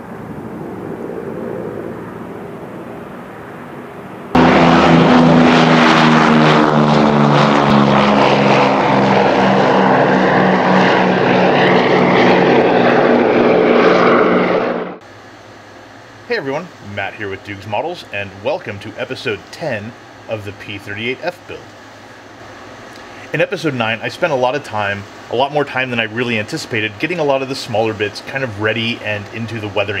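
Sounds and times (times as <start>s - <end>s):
propeller aircraft engines running: 0.0s - 30.0s.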